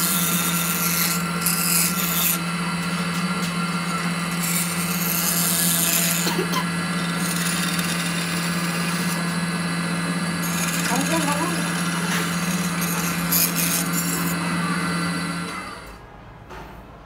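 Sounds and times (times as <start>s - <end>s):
file rasping on spinning metal: 0.0s - 15.9s
lathe motor hum: 0.0s - 16.0s.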